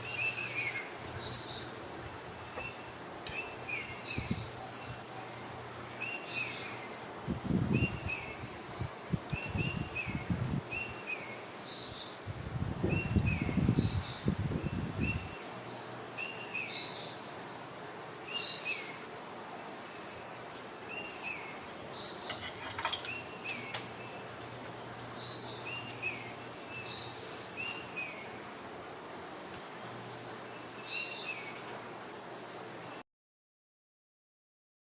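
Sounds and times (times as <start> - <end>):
birds chirping: 0.0 - 12.2, 12.8 - 33.0
faint background hiss: 0.0 - 33.0.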